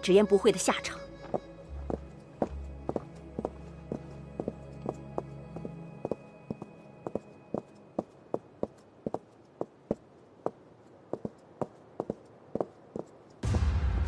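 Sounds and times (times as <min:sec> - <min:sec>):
footsteps on stone paving: 0:01.2 - 0:13.4.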